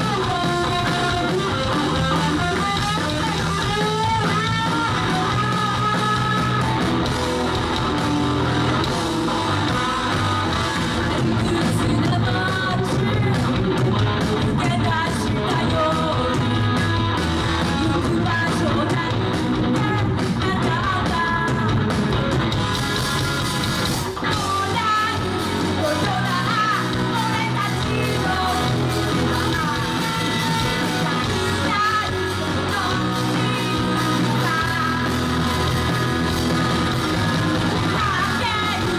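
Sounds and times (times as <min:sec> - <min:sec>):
person singing lead vocals: 0:00.0 - 0:22.2, 0:24.2 - 0:38.9
electric guitars: 0:00.0 - 0:38.9
live rock band playing: 0:00.0 - 0:38.9.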